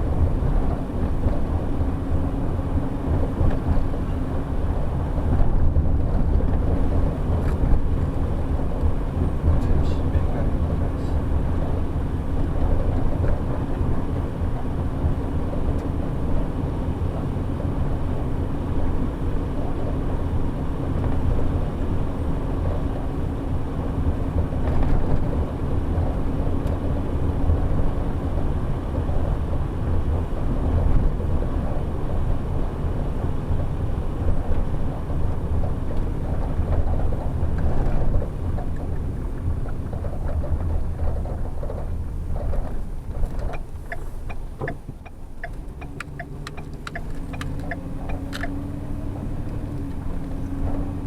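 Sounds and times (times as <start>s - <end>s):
bus engine and road rumble: 0.0s - 51.0s.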